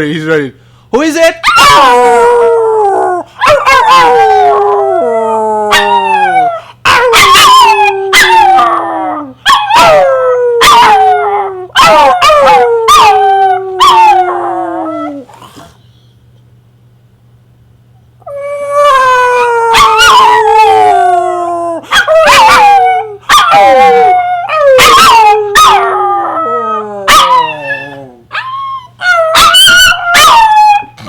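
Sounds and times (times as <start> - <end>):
small dog howling: 1.5 - 15.3, 18.3 - 31.0.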